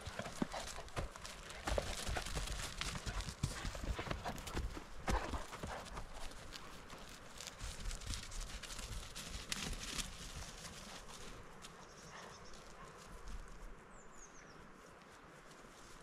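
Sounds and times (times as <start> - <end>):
rustling in grass: 0.0 - 16.0.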